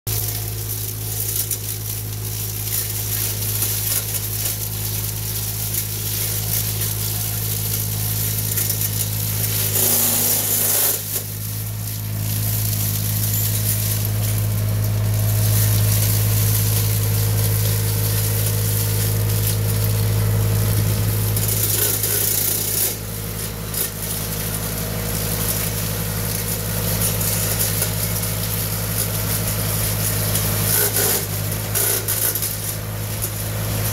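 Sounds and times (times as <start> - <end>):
loader engine running: 0.1 - 33.9
hedge cutter blades hissing: 0.2 - 33.9.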